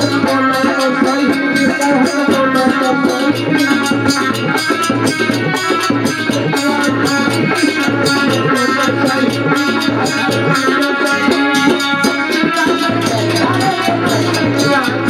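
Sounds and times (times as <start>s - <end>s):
man singing: 0.0s - 4.2s, 6.5s - 15.0s
fast percussion beat: 0.0s - 15.0s
held instrumental notes: 0.0s - 15.0s.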